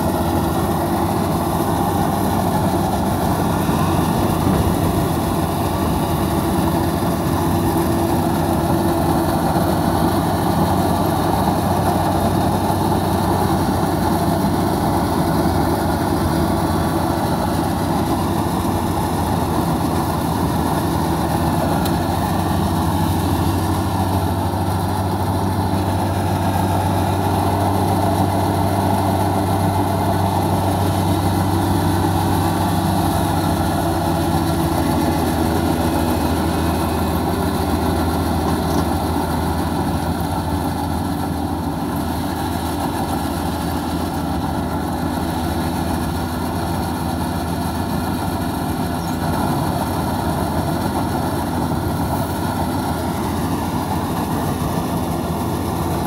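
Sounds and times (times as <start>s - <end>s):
combine harvester diesel engine running: 0.0s - 56.0s.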